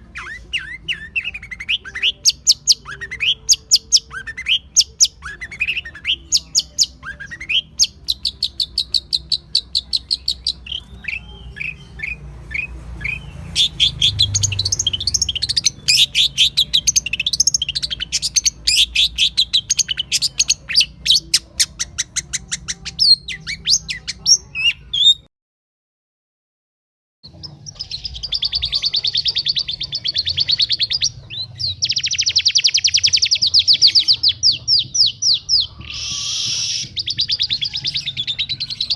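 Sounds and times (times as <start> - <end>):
songbirds chirping and trilling: 0.0 - 25.3, 27.2 - 38.9.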